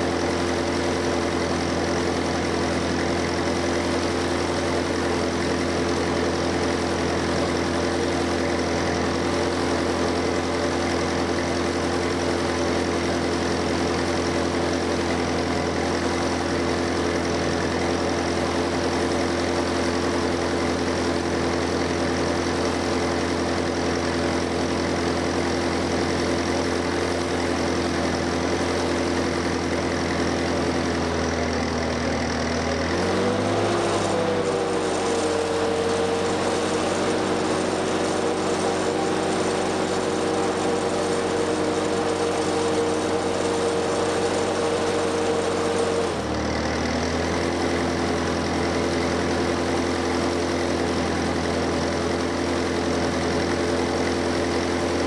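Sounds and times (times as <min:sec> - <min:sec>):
welder engine running: 0:00.0 - 0:55.0.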